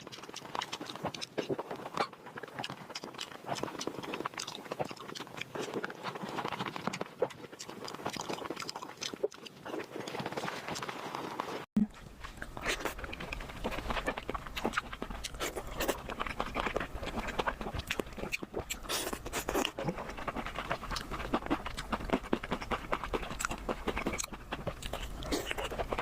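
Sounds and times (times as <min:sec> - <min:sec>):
chewing and lip-smacking: 0:00.0 - 0:26.0.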